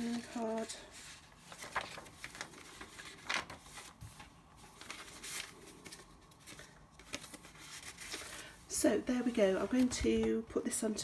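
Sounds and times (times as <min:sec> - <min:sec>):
paper pages rustling: 0:00.0 - 0:10.4.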